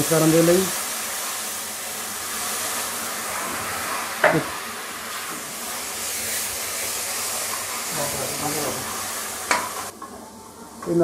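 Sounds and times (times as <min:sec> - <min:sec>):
water sizzling in hot oil: 0:00.0 - 0:10.0.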